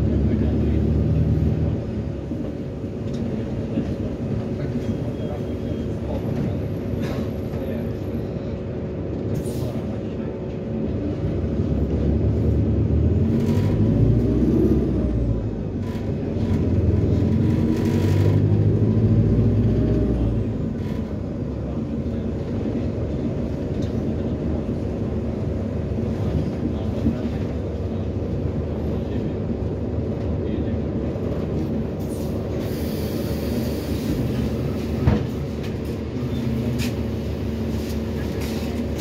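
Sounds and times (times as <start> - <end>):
bus diesel engine: 0.0 - 39.0.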